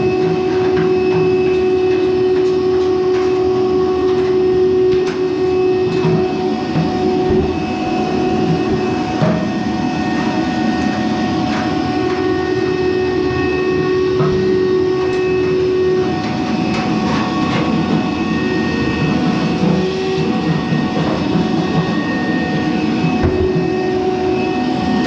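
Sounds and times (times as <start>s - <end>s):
clothes dryer rumbling and whining: 0.0s - 25.0s.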